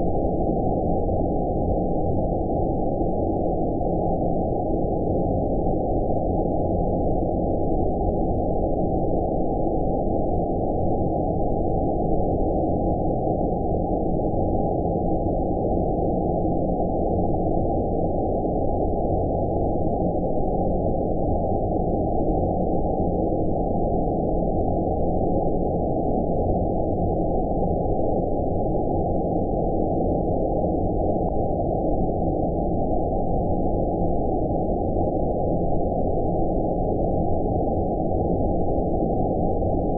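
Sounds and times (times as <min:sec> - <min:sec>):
muffled rushing white noise: 0:00.0 - 0:39.9.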